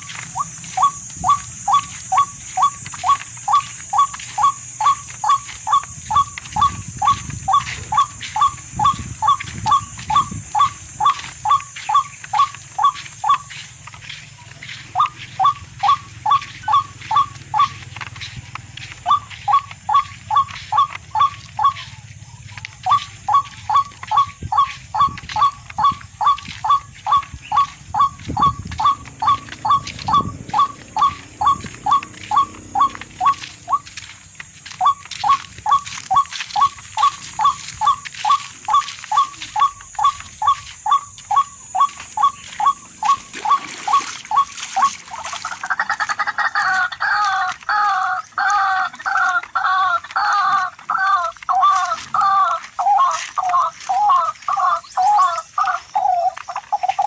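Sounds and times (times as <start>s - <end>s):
fuller bird call: 0.0s - 57.0s
short chirping bird call: 0.0s - 57.0s.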